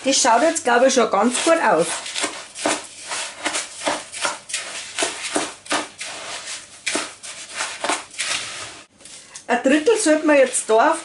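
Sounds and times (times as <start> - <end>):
gritty scraping of salt in bowl: 0.0 - 11.0.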